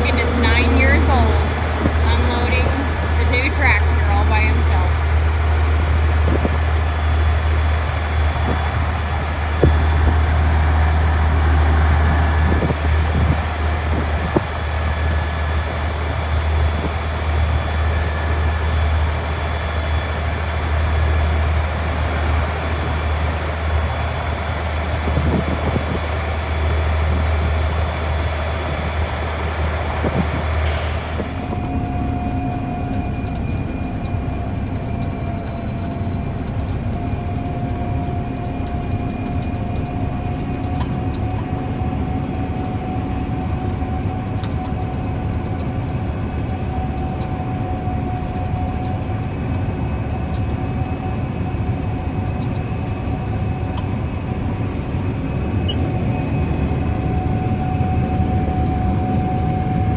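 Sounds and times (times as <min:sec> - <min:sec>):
heavy machinery engine rumble: 0:00.0 - 0:59.9
sustained high whine: 0:00.0 - 0:59.9.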